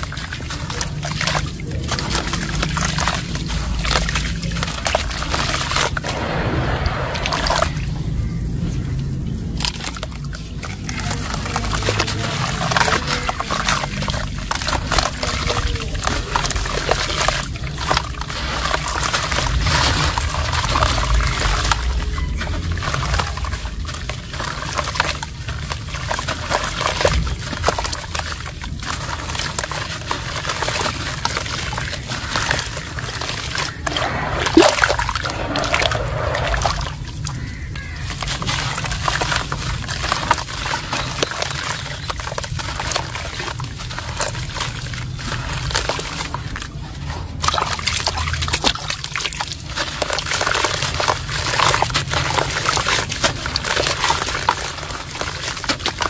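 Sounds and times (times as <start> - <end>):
pieces splashing into water: 0.0 - 56.0.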